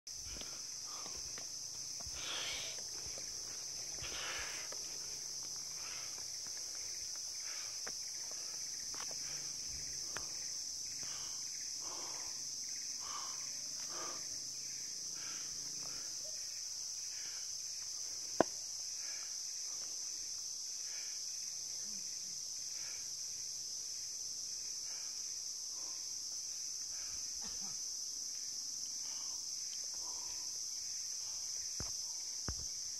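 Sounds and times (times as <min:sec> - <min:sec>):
forest insects droning: 0:00.1 - 0:32.9.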